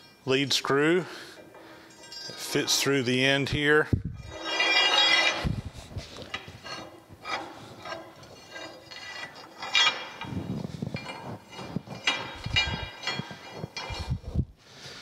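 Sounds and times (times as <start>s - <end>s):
metal-on-metal scraping and clinking: 0.0s - 14.4s.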